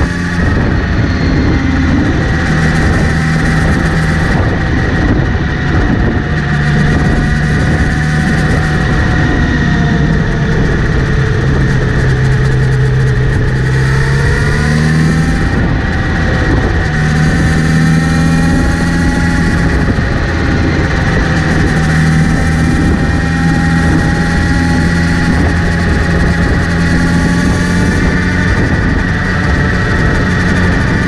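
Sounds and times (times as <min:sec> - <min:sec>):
motorcycle engine running: 0:00.0 - 0:31.0
whirring buzz: 0:00.0 - 0:31.0.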